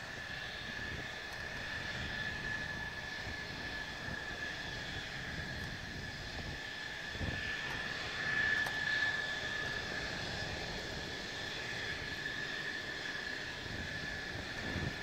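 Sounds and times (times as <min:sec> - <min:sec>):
jet engine whine and rumble: 0:00.0 - 0:15.0.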